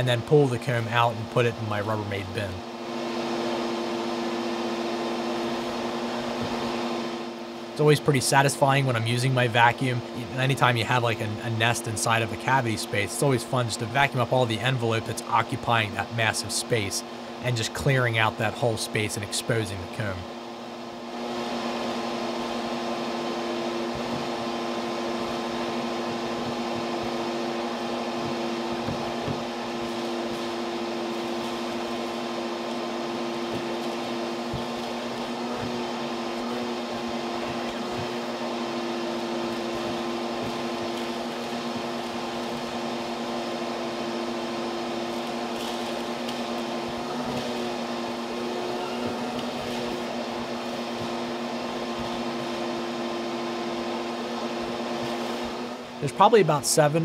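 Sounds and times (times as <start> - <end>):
vacuum cleaner humming: 0.0 - 57.0.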